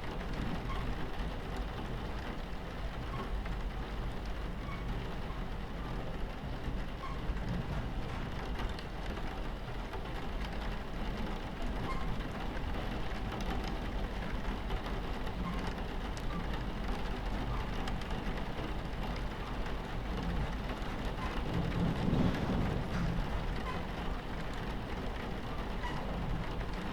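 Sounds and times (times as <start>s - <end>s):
rain pattering on window: 0.0s - 26.9s
train rumbling on tracks: 0.0s - 26.9s.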